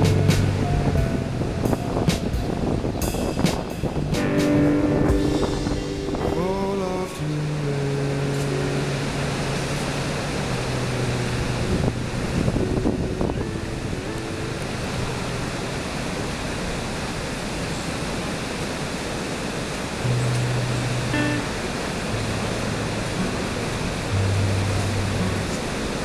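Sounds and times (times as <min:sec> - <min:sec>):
ocean surf breaking: 0:00.0 - 0:26.0
wind noise: 0:00.0 - 0:26.0.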